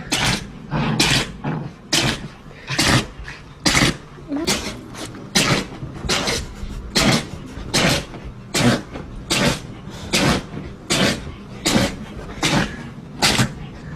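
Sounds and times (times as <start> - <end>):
dog sneezing: 0.1 - 13.6.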